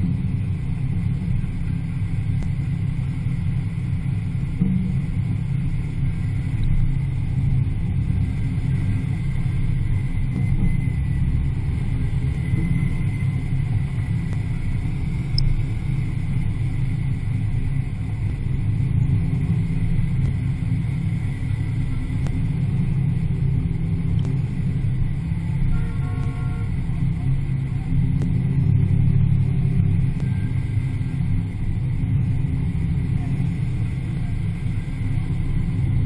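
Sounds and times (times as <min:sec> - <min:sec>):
car engine cruising: 0:00.0 - 0:36.0.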